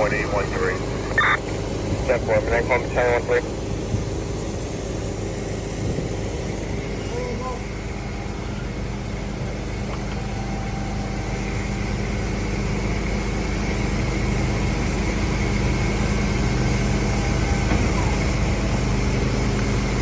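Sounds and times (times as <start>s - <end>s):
heavy engine humming: 0.0s - 20.0s.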